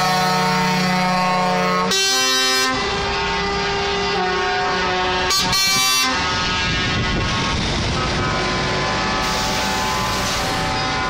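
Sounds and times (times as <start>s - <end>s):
passing truck engines and tyres: 0.0s - 11.0s
truck air horn blasts: 0.0s - 11.0s.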